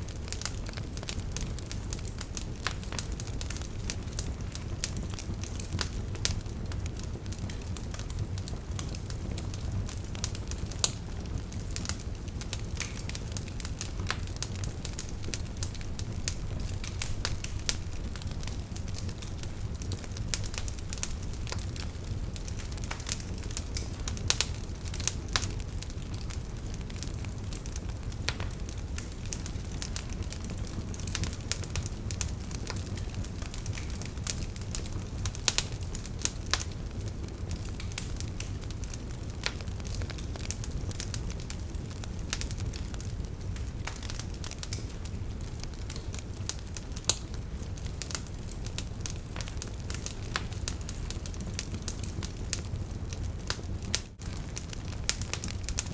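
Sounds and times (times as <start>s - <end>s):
firewood crackling and popping: 0.0s - 55.9s
low rumble of flame: 0.0s - 55.9s.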